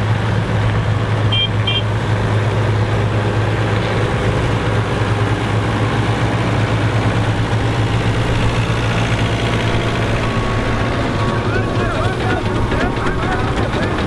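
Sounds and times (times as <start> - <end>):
farm machine engine running: 0.0 - 14.0.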